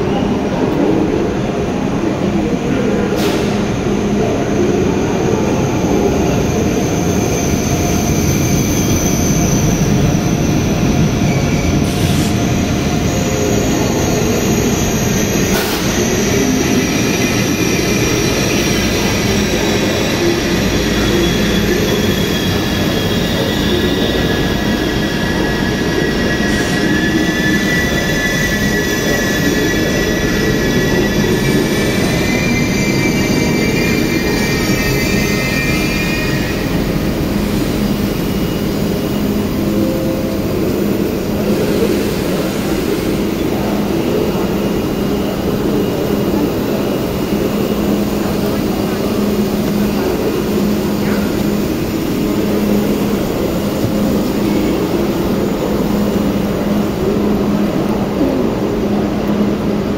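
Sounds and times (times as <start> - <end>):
rumble of train wheels on rails: 0.0 - 59.9.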